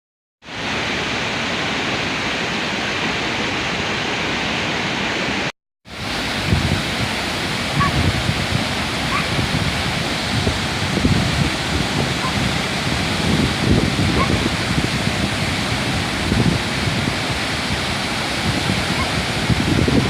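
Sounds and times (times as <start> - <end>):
waterfall rushing: 0.5 - 20.0.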